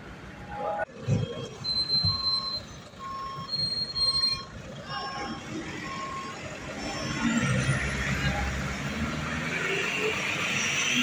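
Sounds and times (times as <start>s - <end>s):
heavy truck engine: 0.0s - 11.0s.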